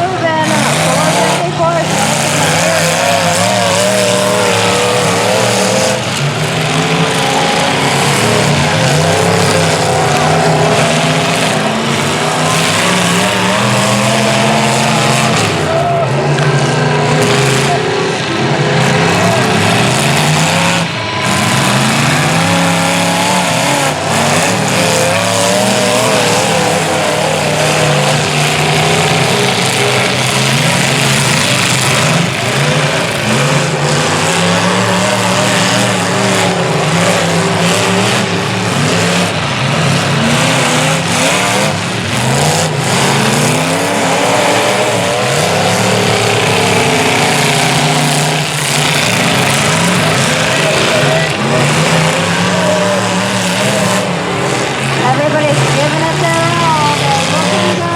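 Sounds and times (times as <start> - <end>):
race truck engines revving: 0.0 - 57.9.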